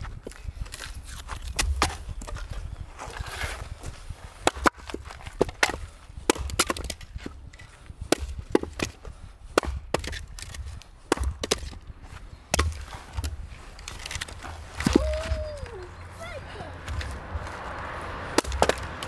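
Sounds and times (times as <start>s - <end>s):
axe chopping firewood: 0.2s - 2.5s, 4.3s - 15.8s, 16.8s - 19.0s.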